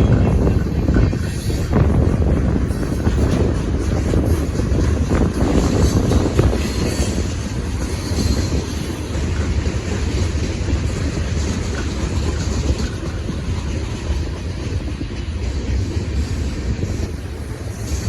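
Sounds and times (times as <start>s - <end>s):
freight train wheels rumbling on rails: 0.0s - 18.0s.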